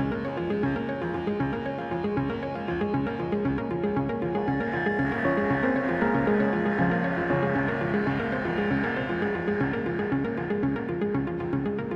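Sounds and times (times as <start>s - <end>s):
synthesised background music: 0.0s - 11.9s.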